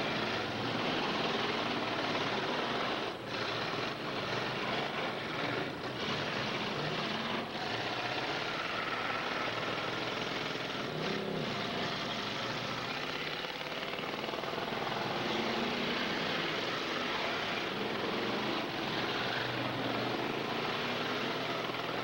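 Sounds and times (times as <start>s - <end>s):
car engines running hard: 0.0s - 22.0s
engine revving: 0.0s - 22.0s.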